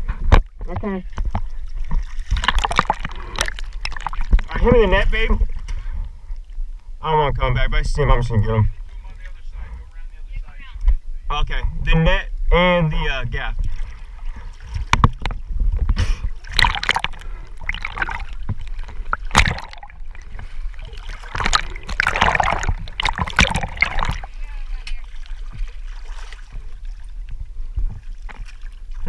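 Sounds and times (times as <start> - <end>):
water splashing and sloshing: 0.0 - 11.0, 13.0 - 29.0
low rumble: 3.1 - 29.0.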